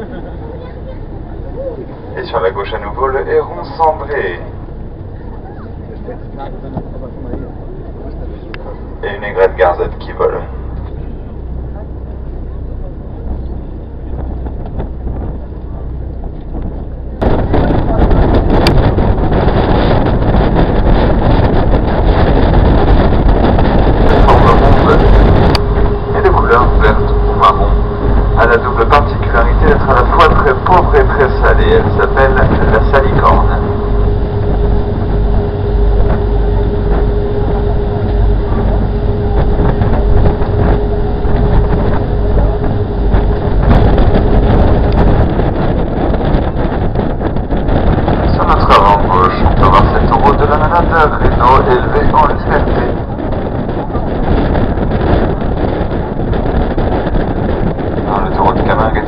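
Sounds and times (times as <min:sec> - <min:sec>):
boat engine drone: 0:00.0 - 0:59.0
steady hum: 0:00.0 - 0:59.0
wind buffeting microphone: 0:00.0 - 0:59.0.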